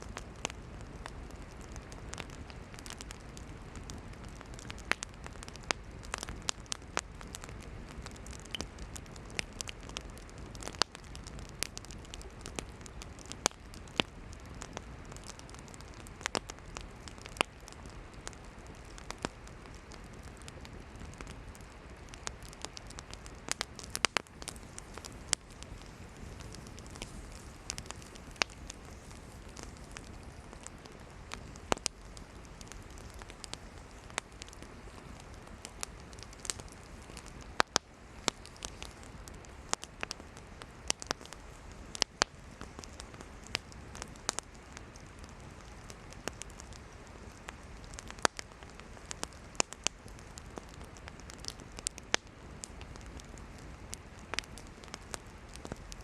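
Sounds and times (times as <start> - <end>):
campfire crackling: 0.0 - 56.0
fire pops and snaps: 0.0 - 56.0.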